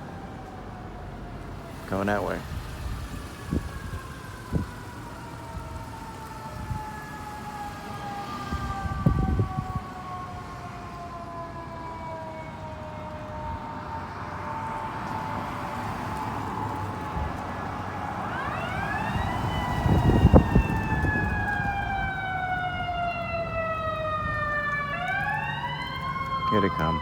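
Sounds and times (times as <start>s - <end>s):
distant fire engine siren wailing: 0.0s - 27.0s
street traffic rumble: 0.0s - 27.0s.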